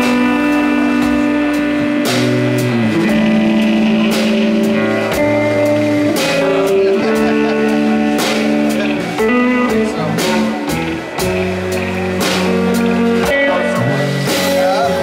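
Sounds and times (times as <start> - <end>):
drum kit: 0.0 - 15.0
electric bass: 0.0 - 15.0
electric guitar: 0.0 - 15.0.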